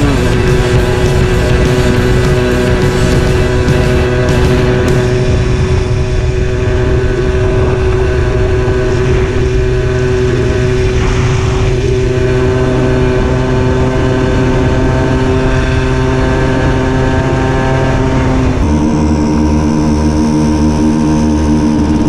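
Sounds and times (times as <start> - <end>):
two-stroke motorcycle engine running: 0.0 - 22.0
wind rush: 0.0 - 22.0.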